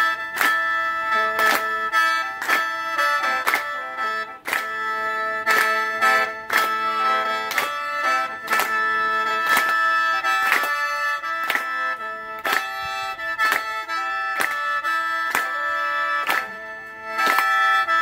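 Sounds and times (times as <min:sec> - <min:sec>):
hand clap keeping time: 0:00.0 - 0:18.0.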